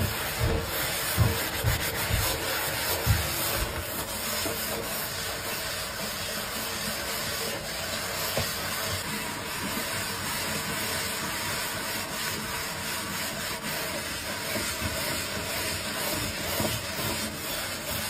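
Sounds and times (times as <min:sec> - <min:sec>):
sponge scrubbing a sink: 0:00.0 - 0:18.0.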